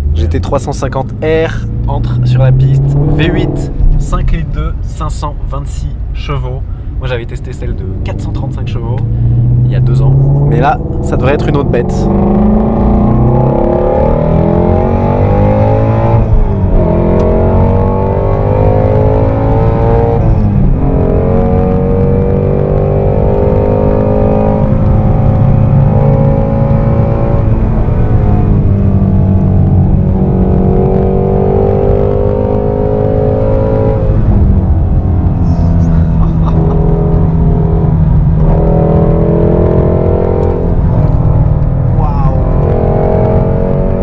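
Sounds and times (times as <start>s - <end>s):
car engine accelerating hard: 0.0s - 5.6s, 6.2s - 44.0s.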